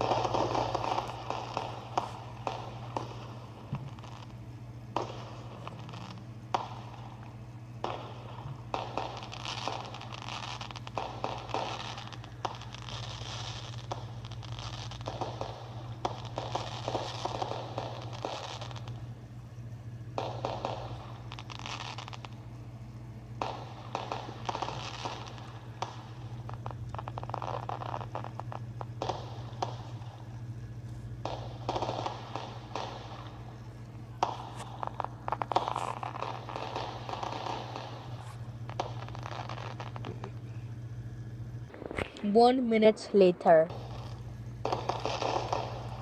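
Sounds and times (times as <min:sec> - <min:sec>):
fireworks crackling: 0:00.0 - 0:46.0
steady low hum: 0:00.0 - 0:46.0.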